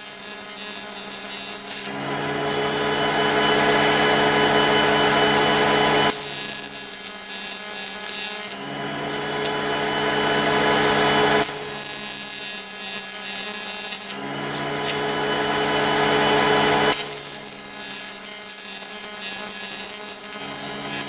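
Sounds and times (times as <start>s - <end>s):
welding arc buzz and hiss: 0.0s - 21.0s.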